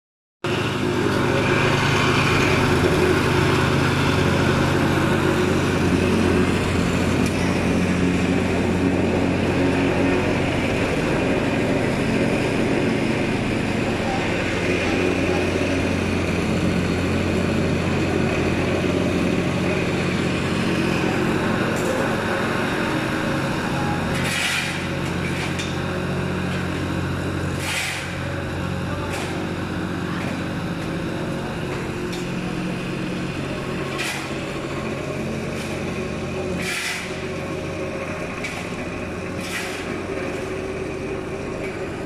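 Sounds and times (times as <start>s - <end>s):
plate compactor engine drone: 0.4s - 42.0s.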